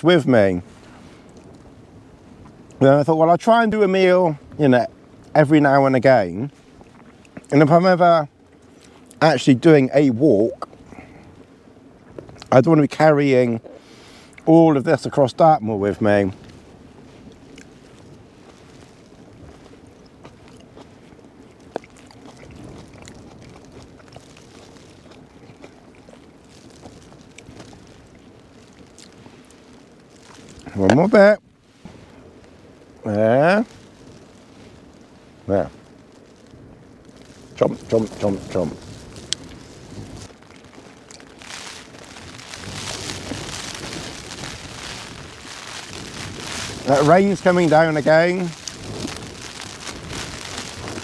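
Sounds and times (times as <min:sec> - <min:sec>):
wind buffeting tarp and microphone: 0:00.0 - 0:51.0.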